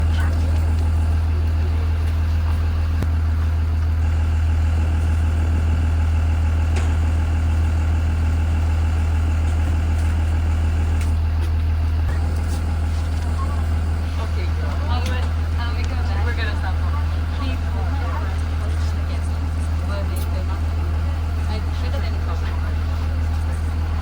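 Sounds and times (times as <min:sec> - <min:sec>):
bus engine idling: 0:00.0 - 0:24.0.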